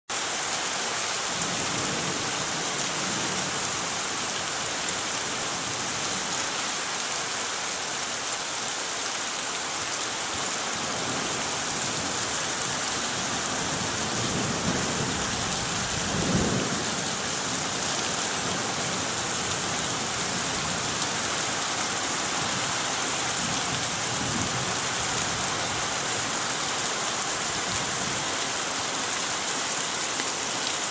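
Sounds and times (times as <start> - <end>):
heavy rain: 0.1 - 30.9.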